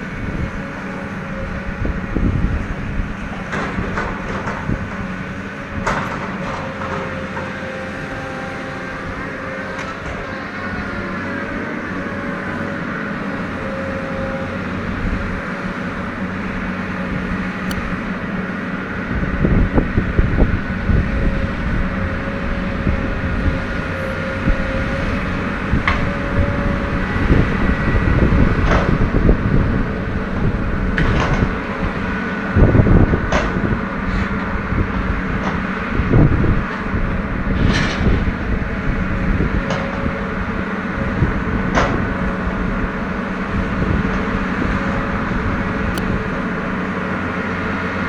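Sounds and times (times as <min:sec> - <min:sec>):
diesel engine running: 0:00.0 - 0:48.0
hydraulic whine: 0:00.0 - 0:48.0.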